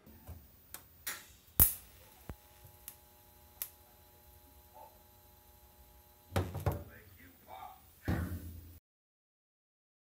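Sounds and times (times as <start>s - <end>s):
welding arc crack: 0.0s - 8.1s
welder arc hum: 0.0s - 8.8s.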